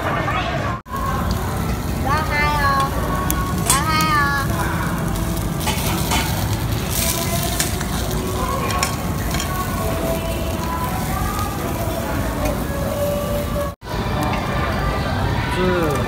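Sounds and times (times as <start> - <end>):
meat sizzling on grill: 0.9 - 14.8.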